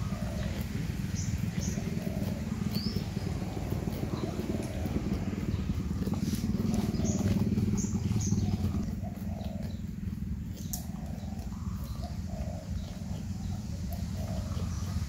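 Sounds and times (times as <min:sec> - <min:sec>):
animals crunching vegetables: 0:00.0 - 0:15.0
birds cooing: 0:00.0 - 0:15.0.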